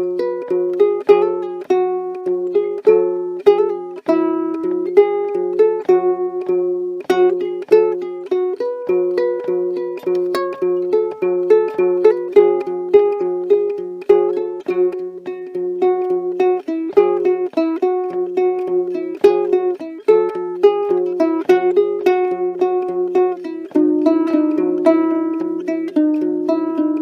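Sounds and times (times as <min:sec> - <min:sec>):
ukulele plucked notes: 0:00.0 - 0:27.0.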